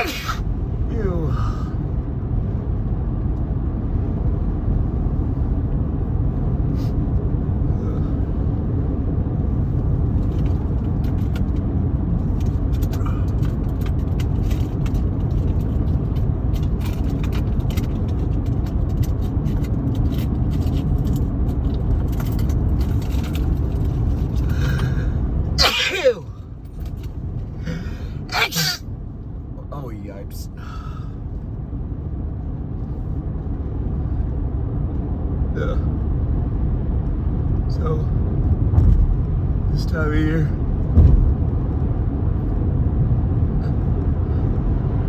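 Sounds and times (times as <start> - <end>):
road and engine rumble in car: 0.0 - 45.0.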